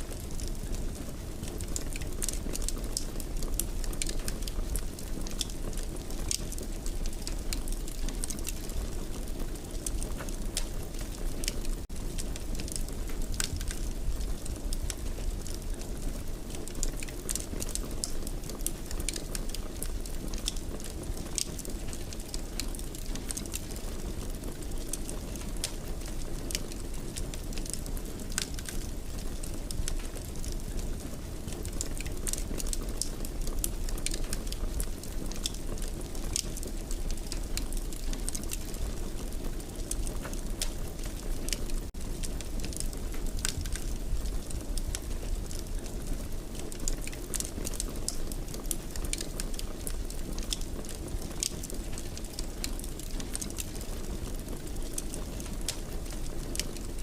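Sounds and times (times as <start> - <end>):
fireplace fire crackling: 0.0 - 57.0
low rumble of burning: 0.0 - 57.0.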